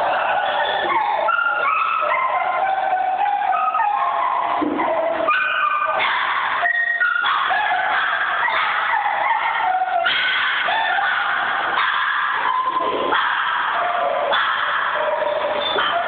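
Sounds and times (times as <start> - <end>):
dogs whining and yipping: 0.0 - 16.0.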